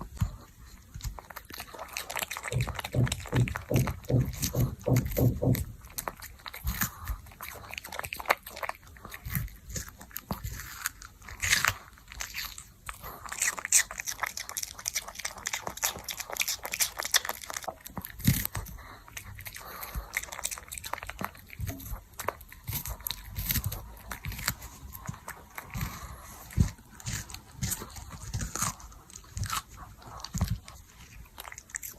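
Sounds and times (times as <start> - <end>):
dog crunching cucumber: 0.0 - 31.9.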